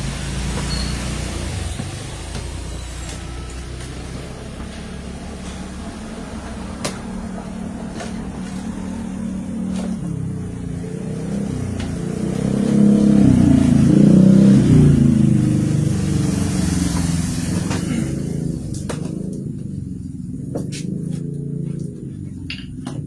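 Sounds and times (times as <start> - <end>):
vehicle engine passing by: 0.0 - 22.4.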